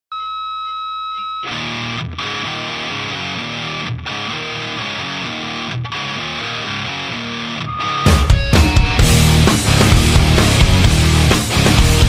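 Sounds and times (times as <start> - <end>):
distorted electric guitar: 1.4 - 12.0
heavy rock music: 1.5 - 12.0.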